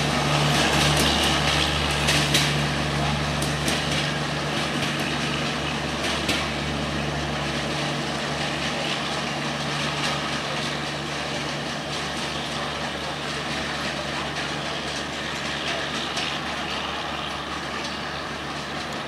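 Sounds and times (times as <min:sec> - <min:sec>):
low engine drone: 0:00.0 - 0:19.0
train wheels rumbling on rails: 0:00.0 - 0:19.0.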